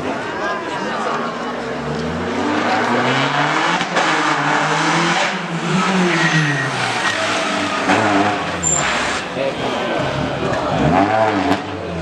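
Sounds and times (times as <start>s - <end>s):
rally car engine revving: 1.2s - 12.0s.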